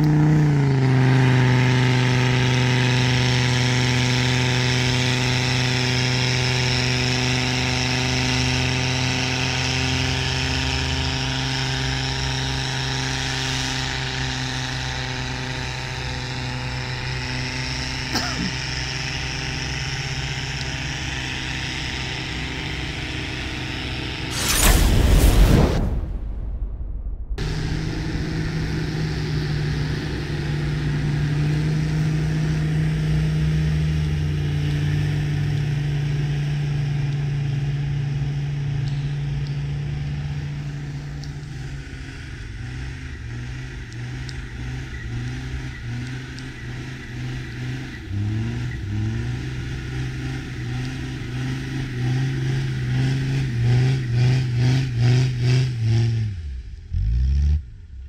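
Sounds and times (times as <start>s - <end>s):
diesel engine revving: 0.0s - 26.1s, 27.3s - 58.0s.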